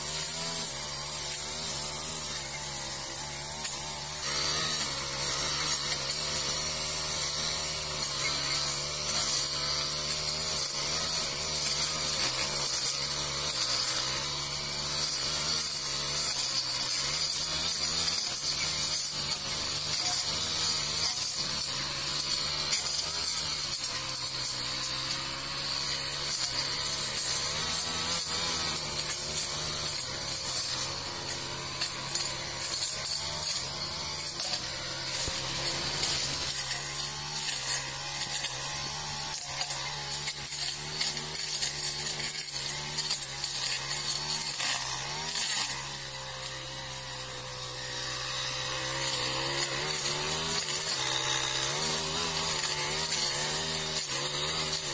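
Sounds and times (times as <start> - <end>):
brush cutter running: 0.0 - 54.9.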